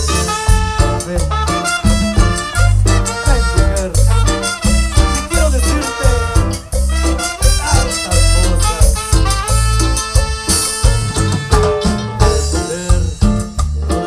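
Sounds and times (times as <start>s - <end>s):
live band playing cumbia music: 0.0s - 14.0s.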